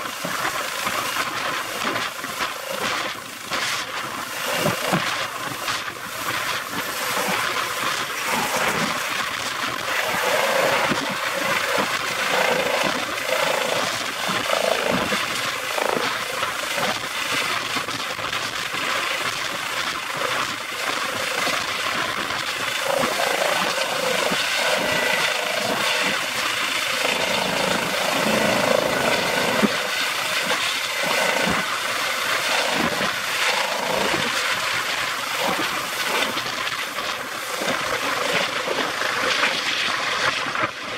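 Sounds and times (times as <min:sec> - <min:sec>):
helicopter rotor noise: 0:00.0 - 0:40.9.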